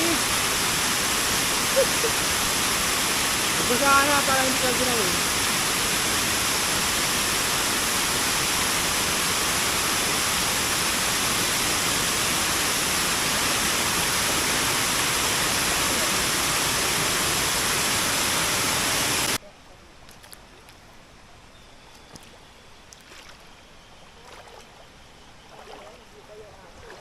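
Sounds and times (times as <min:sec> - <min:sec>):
river water rushing: 0:00.0 - 0:21.1, 0:22.9 - 0:27.0.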